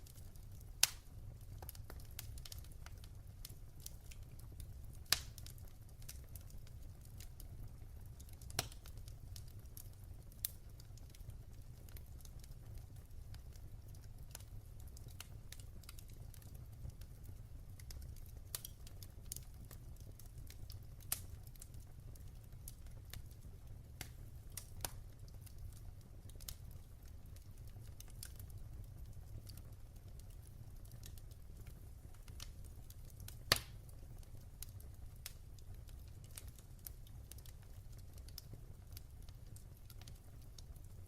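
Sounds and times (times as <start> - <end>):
fireplace fire crackling: 0.0 - 41.0.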